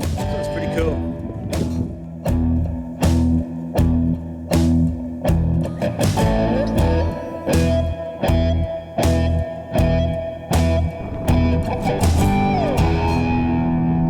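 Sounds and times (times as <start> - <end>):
guitar rock music: 0.0 - 14.0.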